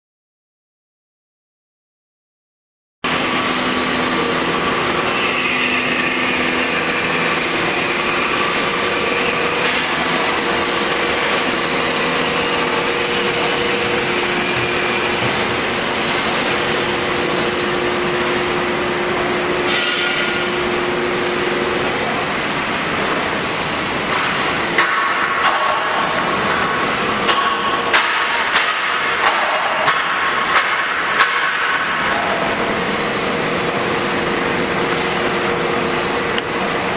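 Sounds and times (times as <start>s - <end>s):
machine running with humming tones: 3.0s - 36.9s.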